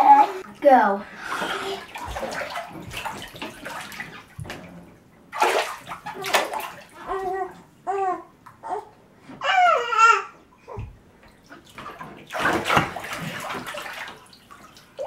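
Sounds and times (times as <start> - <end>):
bathwater sloshing and splashing: 0.0 - 8.0, 10.7 - 15.0.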